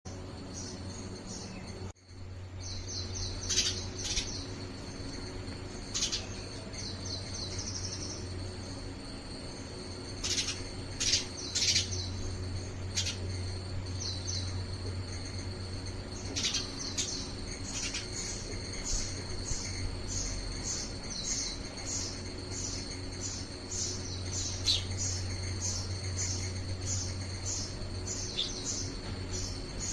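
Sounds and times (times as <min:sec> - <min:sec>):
sparrow chirping: 0:02.6 - 0:08.7, 0:10.1 - 0:15.3, 0:16.0 - 0:29.9.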